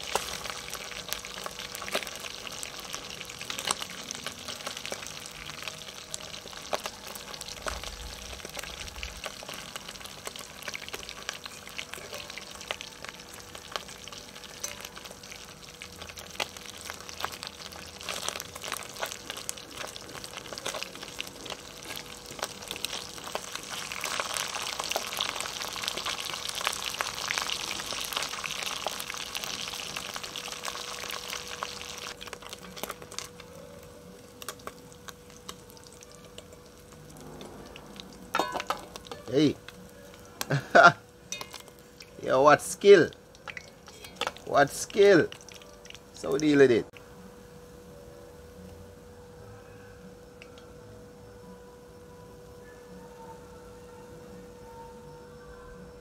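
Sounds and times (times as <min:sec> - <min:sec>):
fish frying in hot oil: 0:00.0 - 0:47.6.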